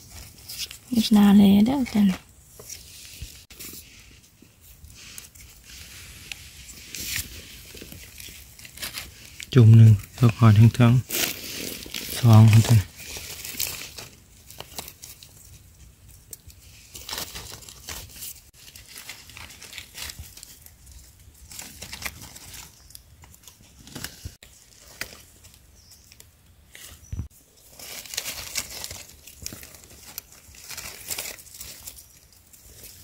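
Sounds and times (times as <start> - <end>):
dry leaves rustling and crackling: 0.0 - 33.0.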